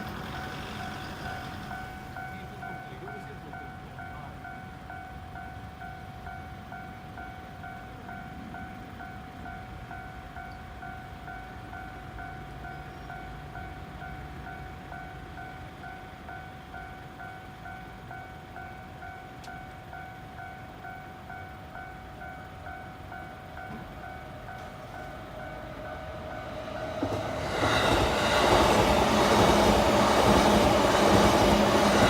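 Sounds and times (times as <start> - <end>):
level-crossing warning bell: 0.0 - 32.0.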